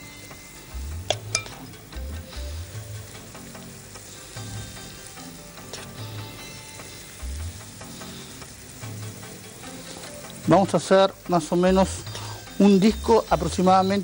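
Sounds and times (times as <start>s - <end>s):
batter sizzling on a hot griddle: 0.0s - 14.0s.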